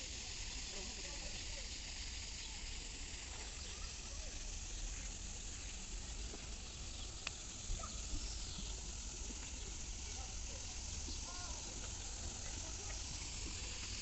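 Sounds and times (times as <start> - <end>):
high hiss: 0.0 - 14.0.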